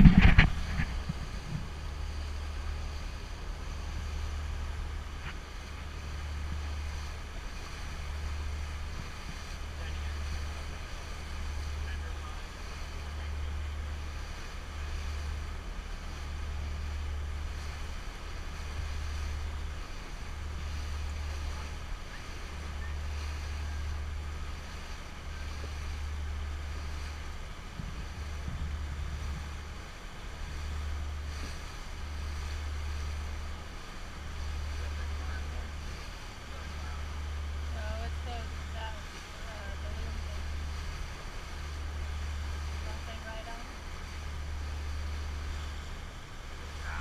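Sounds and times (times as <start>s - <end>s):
water rushing along hull: 0.0s - 47.0s
wind rumbling on microphone: 0.0s - 47.0s.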